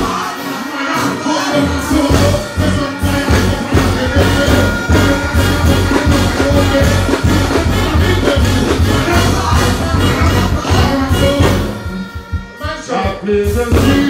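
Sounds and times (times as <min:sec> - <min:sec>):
heavy bass beat: 0:00.0 - 0:14.0
horn line: 0:00.0 - 0:14.0
live reggae band music: 0:00.0 - 0:14.0.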